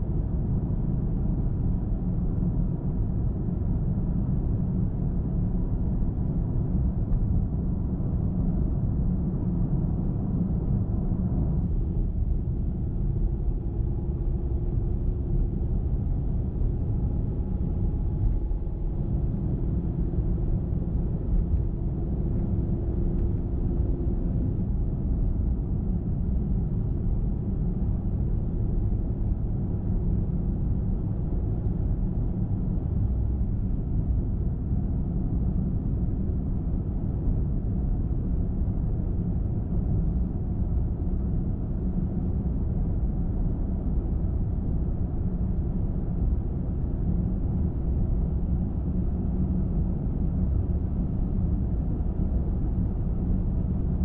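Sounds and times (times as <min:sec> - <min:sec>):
faint steady hum: 0:00.0 - 0:54.0
road and tyre rumble: 0:00.0 - 0:54.0.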